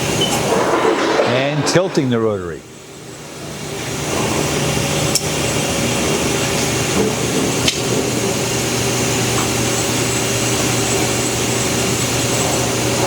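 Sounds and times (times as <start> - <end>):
machine hum and whine: 0.0 - 13.0.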